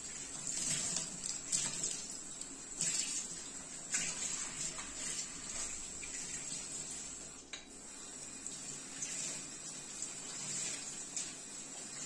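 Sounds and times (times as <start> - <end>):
sponge scrubbing sink: 0.0 - 12.0
tap water running into sink: 0.0 - 12.0.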